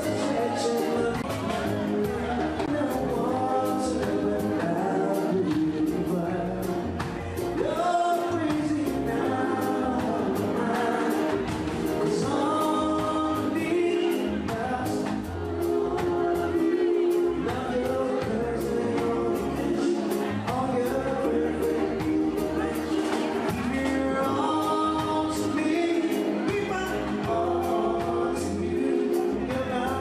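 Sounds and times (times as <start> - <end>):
drums keeping a beat: 0.0 - 30.0
live band playing: 0.0 - 30.0
person singing: 0.0 - 30.0.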